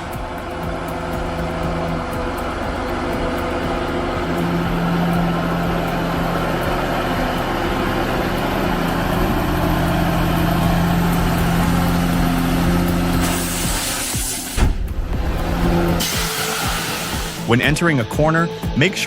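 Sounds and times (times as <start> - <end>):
large diesel engine running: 0.0 - 18.2.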